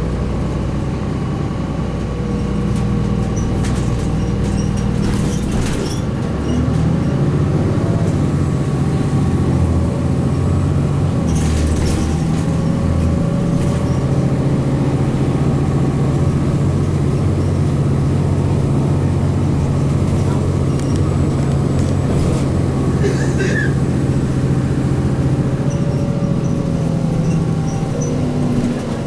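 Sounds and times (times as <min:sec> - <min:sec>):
diesel bus engine running: 0:00.0 - 0:29.0.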